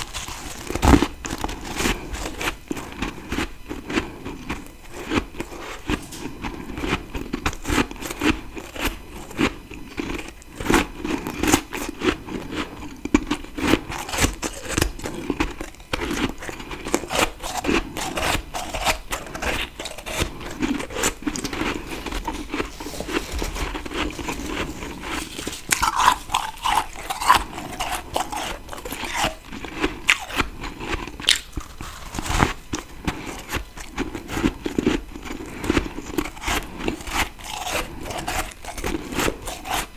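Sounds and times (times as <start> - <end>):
person chewing frost crunching: 0.0 - 39.9.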